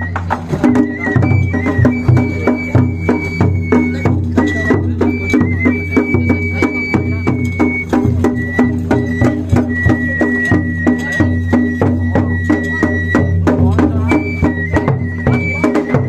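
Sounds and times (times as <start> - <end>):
high flute long notes: 0.0 - 16.0
taiko drum beating: 0.0 - 16.0.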